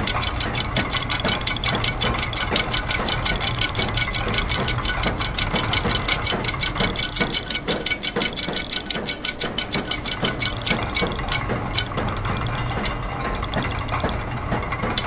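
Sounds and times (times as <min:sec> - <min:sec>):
rapid mechanical clicking: 0:00.0 - 0:15.0.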